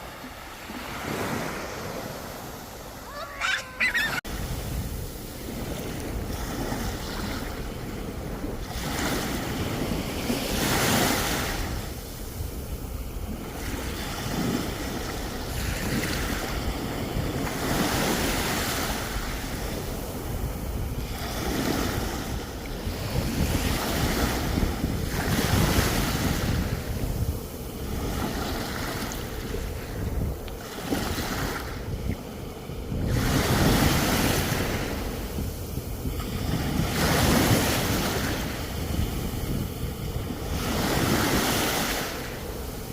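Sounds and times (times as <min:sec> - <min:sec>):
sea waves breaking on shore: 0:00.0 - 0:42.9
wind rumbling on microphone: 0:00.0 - 0:42.9.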